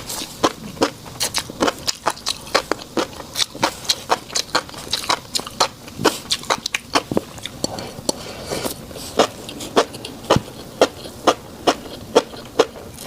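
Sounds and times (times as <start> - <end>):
person chewing mouth clicks: 0.0 - 13.0.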